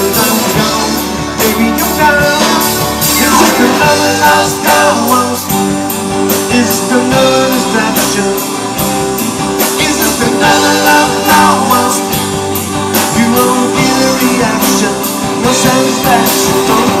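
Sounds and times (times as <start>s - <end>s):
drum kit beat: 0.0s - 17.0s
electric guitars: 0.0s - 17.0s
person singing: 0.0s - 17.0s.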